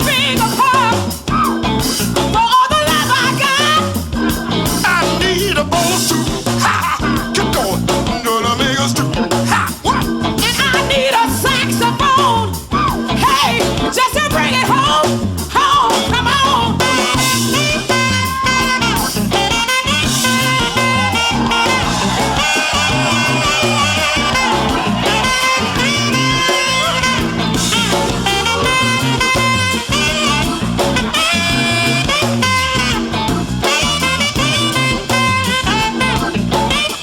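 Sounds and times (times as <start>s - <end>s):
upbeat funk music: 0.0s - 37.0s.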